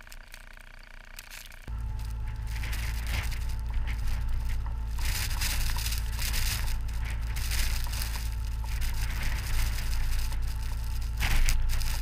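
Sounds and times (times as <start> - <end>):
crackling crunching tracks: 0.0 - 12.0
tracked vehicle engine rumble: 0.0 - 12.0.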